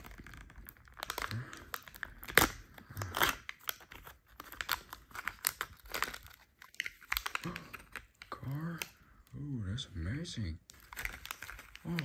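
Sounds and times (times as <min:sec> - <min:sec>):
foil wrapper crinkling: 0:00.0 - 0:08.9, 0:10.7 - 0:12.0.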